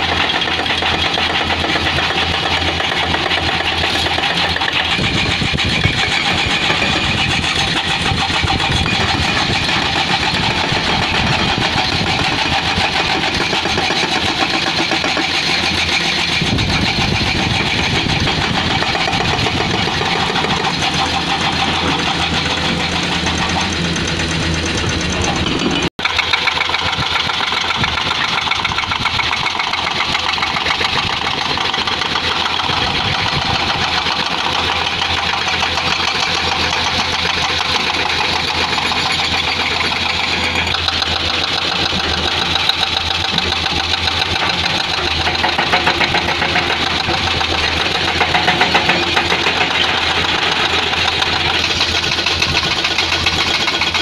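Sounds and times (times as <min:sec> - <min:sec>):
diesel engine running: 0:00.0 - 0:54.0
hydraulic breaker hammering rock: 0:00.0 - 0:54.0.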